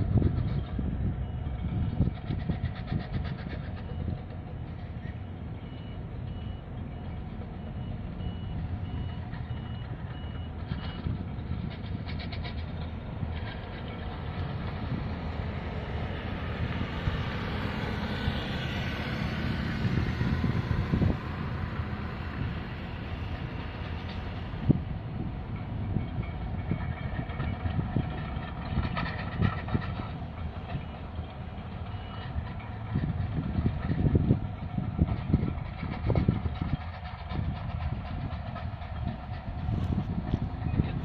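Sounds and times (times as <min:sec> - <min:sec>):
low steady rumble: 0:00.0 - 0:41.0.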